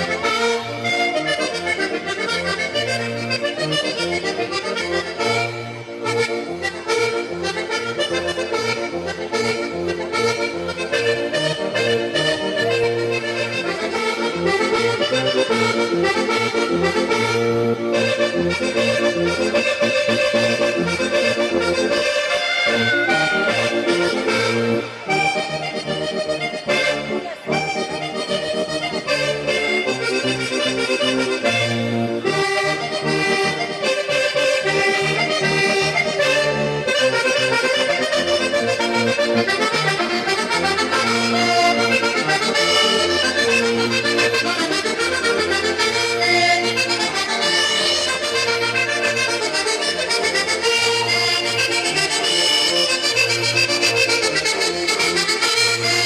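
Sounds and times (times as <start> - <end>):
accordions playing dance tune: 0.0 - 56.0.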